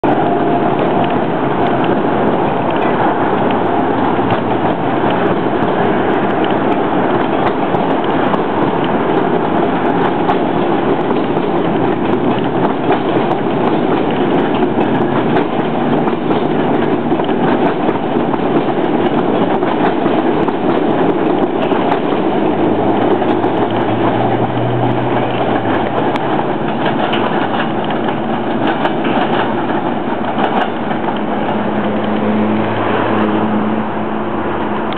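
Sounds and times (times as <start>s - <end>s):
wheels clicking over rail joints: 0.0s - 33.5s, 34.5s - 34.9s
train rumbling past: 0.0s - 34.9s.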